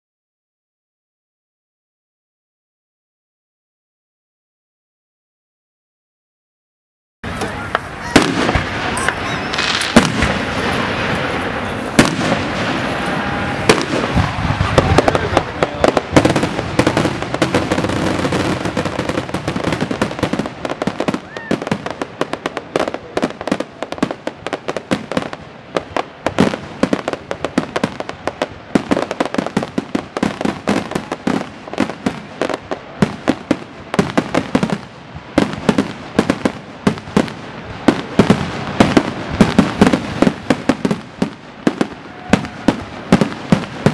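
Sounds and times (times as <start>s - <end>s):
fireworks bursting and crackling: 7.2s - 43.9s.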